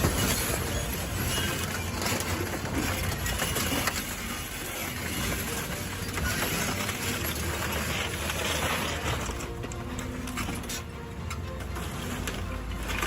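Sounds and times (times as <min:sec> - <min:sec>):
heavy machine engine humming: 0:00.0 - 0:13.0.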